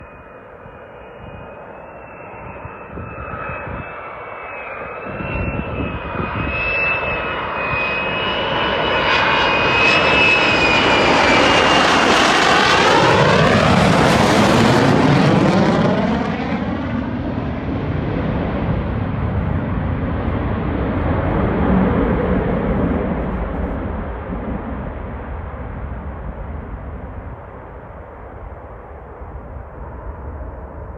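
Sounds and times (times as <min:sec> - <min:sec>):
jet engine whine and roar: 0:00.0 - 0:30.9.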